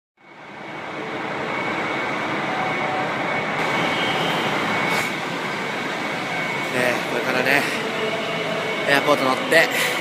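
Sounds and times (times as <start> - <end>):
electric train rushing: 0.2 - 10.0
faint high whine: 0.2 - 10.0.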